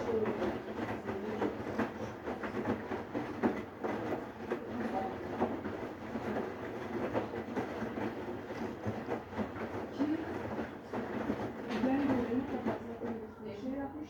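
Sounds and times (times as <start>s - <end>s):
washing machine drum churning: 0.0s - 14.0s.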